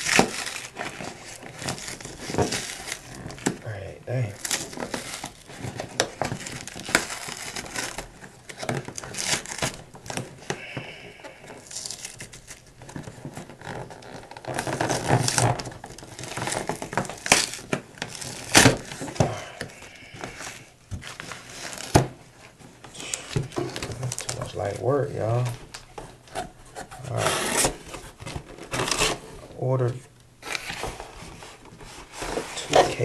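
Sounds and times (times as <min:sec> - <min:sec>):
plastic packaging crinkling: 0:00.0 - 0:29.7.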